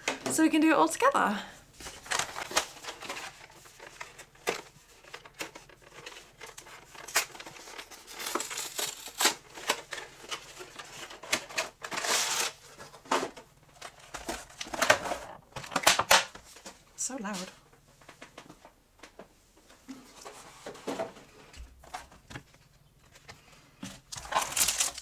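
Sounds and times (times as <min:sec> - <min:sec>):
plastic wrap crackling and crinkling: 0:01.7 - 0:18.8, 0:21.8 - 0:25.0.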